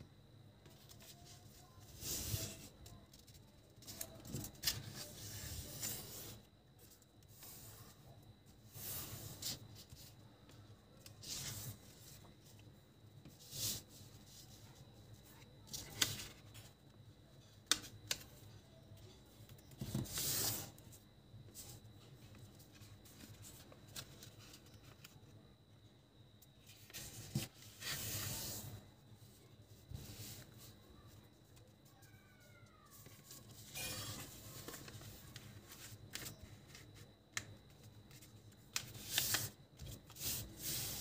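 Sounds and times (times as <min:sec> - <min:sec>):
paper rustling and creasing: 0:00.6 - 0:16.7, 0:21.5 - 0:25.4, 0:26.6 - 0:41.0.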